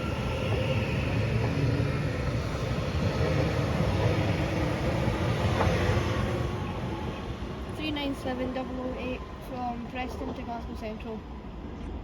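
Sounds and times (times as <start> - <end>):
electric train rumbling past: 0.0 - 12.0
faint train whine: 0.0 - 12.0.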